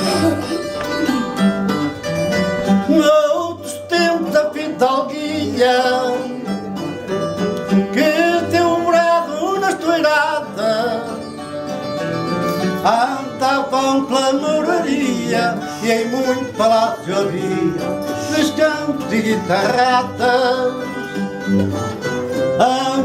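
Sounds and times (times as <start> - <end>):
guitar playing wavering melody: 0.0 - 23.0
plucked guitar chords: 0.0 - 23.0.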